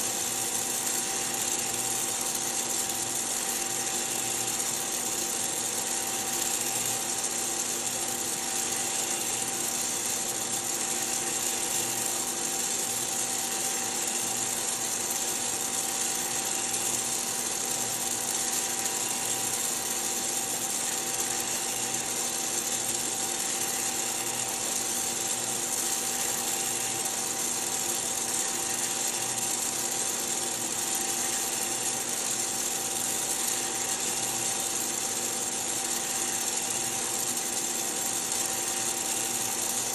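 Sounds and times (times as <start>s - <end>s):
coffee roaster motor hum: 0.0s - 39.9s.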